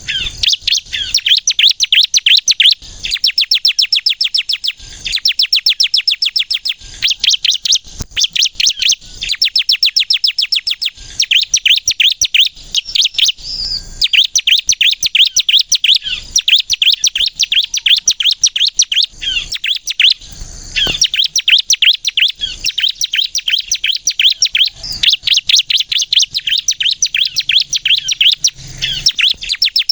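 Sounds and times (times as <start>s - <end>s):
bird singing rapid high chirps: 0.0s - 29.9s.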